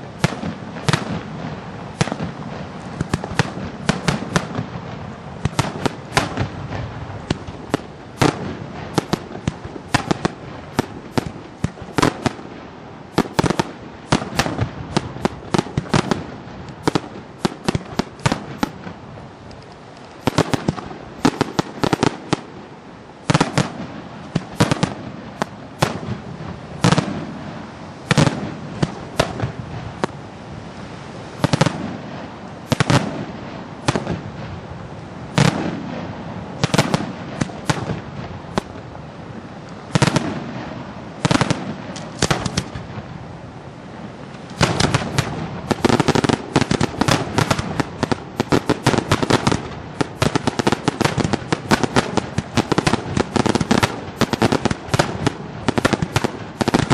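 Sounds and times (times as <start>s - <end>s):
fireworks bangs with echo: 0.0s - 19.4s, 20.2s - 30.3s, 31.4s - 43.3s, 44.3s - 56.9s.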